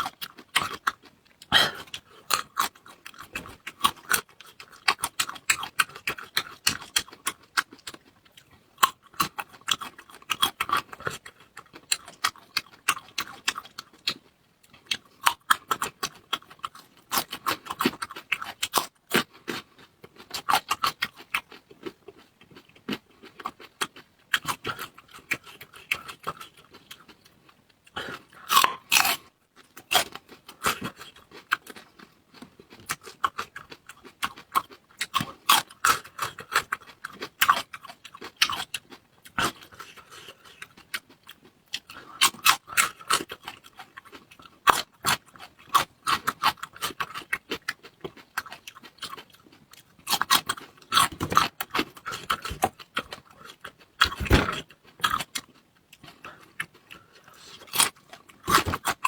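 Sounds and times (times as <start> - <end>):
chewing with wet mouth clicks: 0.0 - 59.0.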